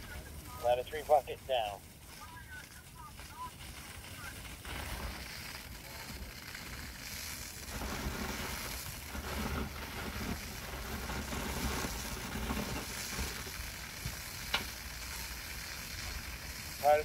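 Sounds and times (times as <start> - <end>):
fire hose spraying: 0.0 - 17.0.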